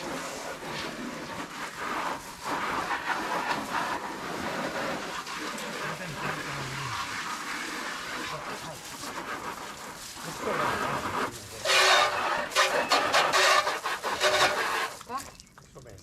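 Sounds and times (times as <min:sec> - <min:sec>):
water spraying from a hose: 0:00.0 - 0:16.0.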